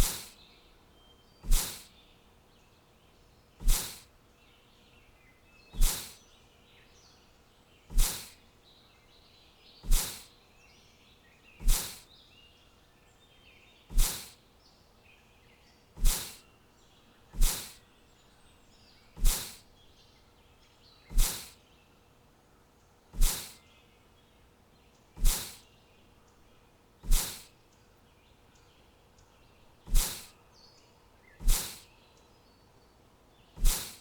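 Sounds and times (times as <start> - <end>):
faint bird chirping: 0.0 - 34.0.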